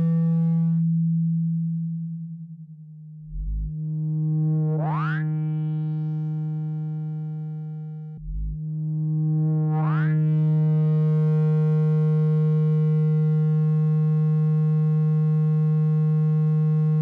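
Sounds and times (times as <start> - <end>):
synthesized low hum tone: 0.0 - 17.0.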